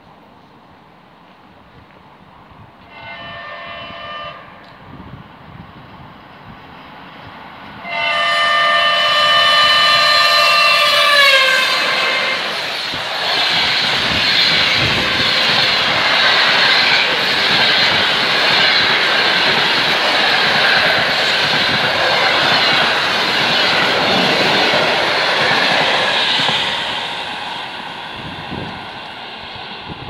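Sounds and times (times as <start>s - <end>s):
train wheels rumbling on track: 1.2s - 30.0s.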